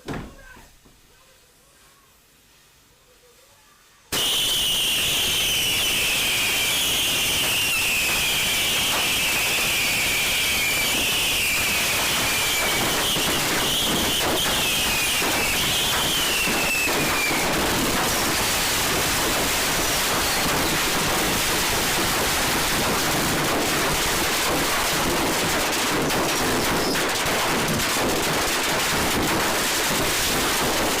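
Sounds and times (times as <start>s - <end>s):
steady hiss: 0.0s - 31.0s
fireworks crackling: 4.1s - 31.0s.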